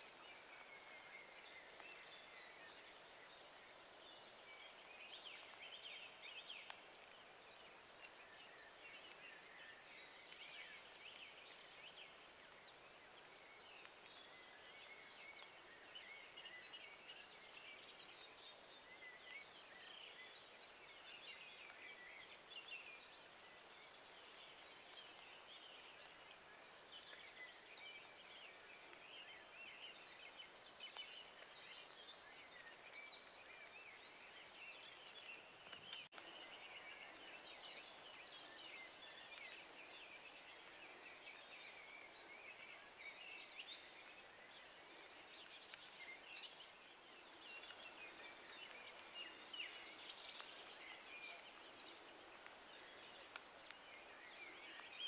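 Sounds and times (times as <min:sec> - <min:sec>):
low outdoor hiss: 0:00.0 - 0:55.0.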